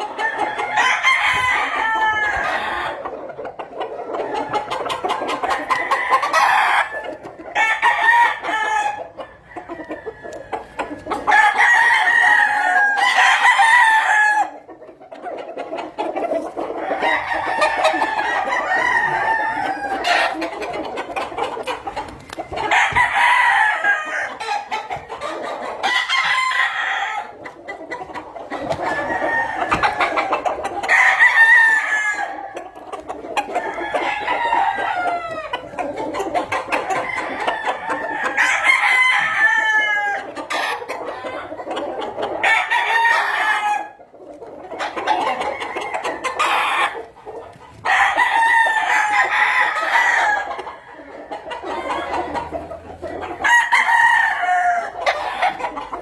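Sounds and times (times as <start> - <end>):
roosters crowing: 0.0 - 56.0.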